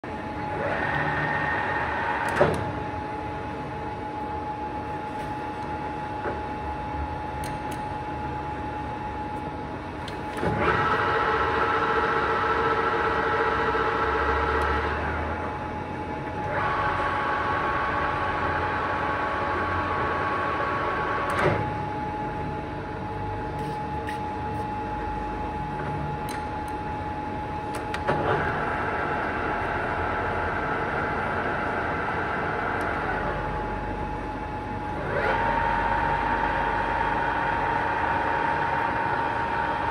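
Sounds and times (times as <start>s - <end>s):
lathe gear whine: 0.0s - 39.9s.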